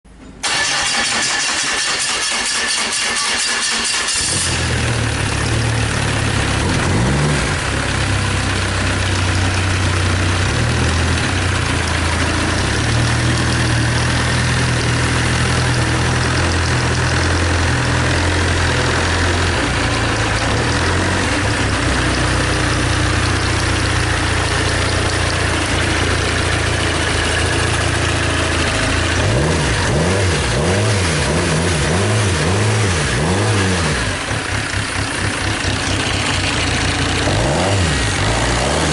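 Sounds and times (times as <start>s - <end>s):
diesel engine idling and revving: 0.4s - 38.9s.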